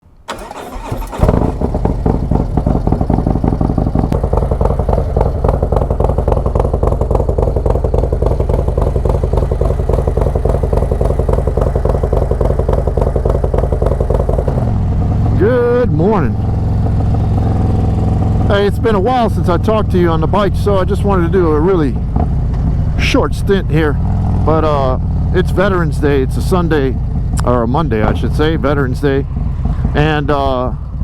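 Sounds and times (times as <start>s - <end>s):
motorcycle engine starting: 0.1s - 31.0s
motorcycle engine idling: 0.3s - 31.0s.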